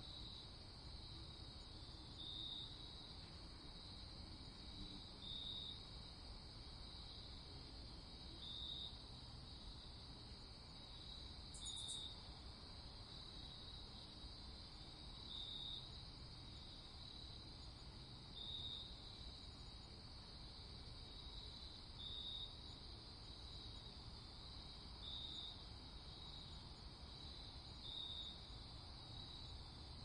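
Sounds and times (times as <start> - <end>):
crickets chirring: 0.0 - 30.0
insect trill: 0.0 - 30.0.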